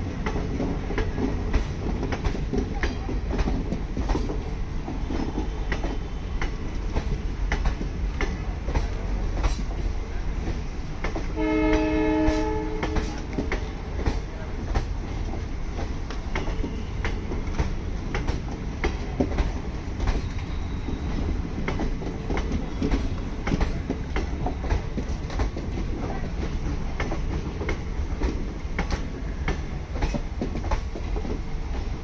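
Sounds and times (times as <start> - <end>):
low train rumble: 0.0 - 32.0
train wheels clacking on rail joints: 0.0 - 32.0.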